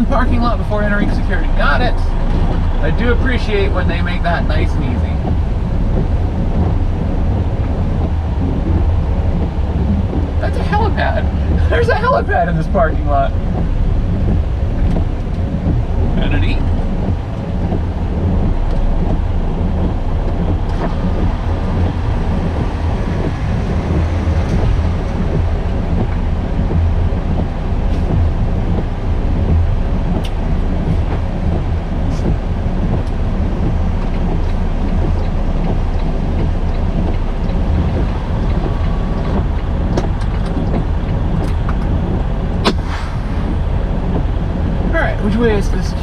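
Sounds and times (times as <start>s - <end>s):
diesel truck engine rumbling: 0.0s - 46.0s.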